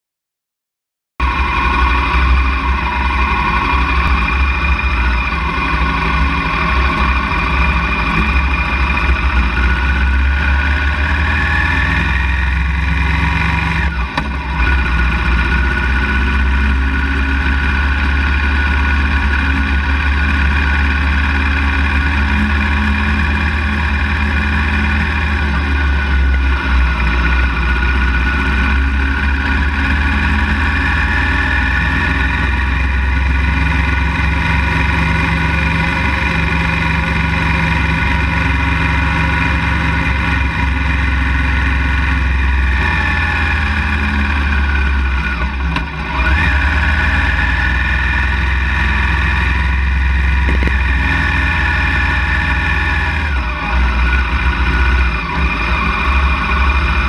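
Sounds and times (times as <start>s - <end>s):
motorcycle engine running: 1.2s - 57.0s.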